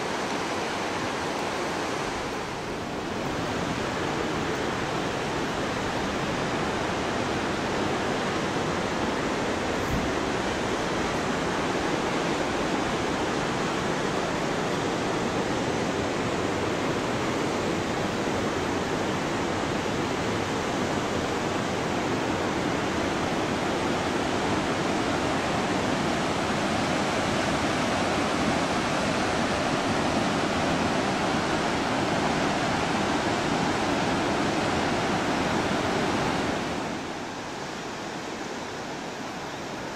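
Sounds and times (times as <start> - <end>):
mountain river rushing: 0.0 - 39.9.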